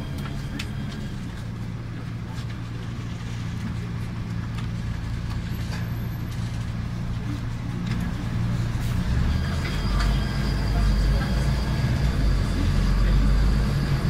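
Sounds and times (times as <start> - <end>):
bus engine and road drone: 0.0 - 14.0.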